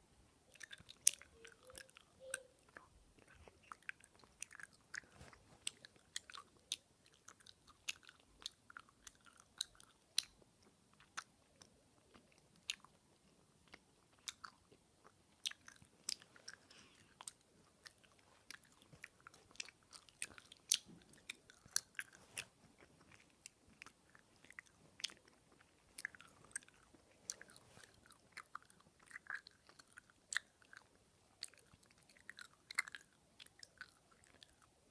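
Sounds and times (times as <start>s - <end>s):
person chewing gum: 0.5s - 34.9s.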